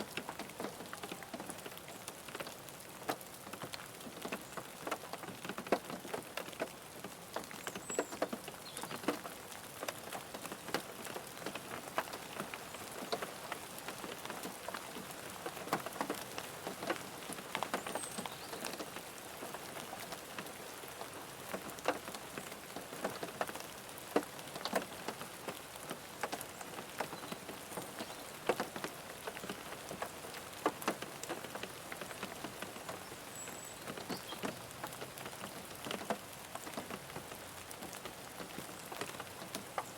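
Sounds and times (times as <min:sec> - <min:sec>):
rain on car roof and glass: 0:00.0 - 0:39.9.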